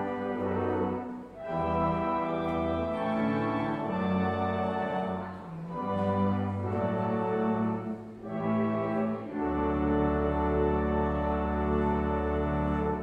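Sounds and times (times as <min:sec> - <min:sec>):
organ playing held chords: 0:00.0 - 0:13.0.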